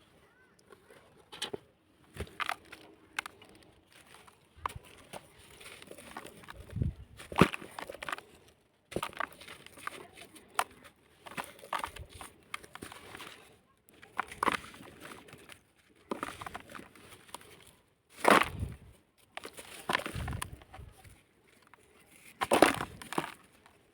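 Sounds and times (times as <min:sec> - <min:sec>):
cement chunks crunching: 0:00.6 - 0:23.9.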